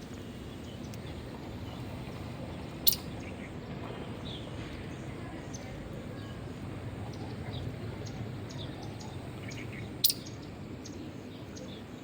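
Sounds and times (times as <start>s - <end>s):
low outdoor hum: 0.0s - 12.0s.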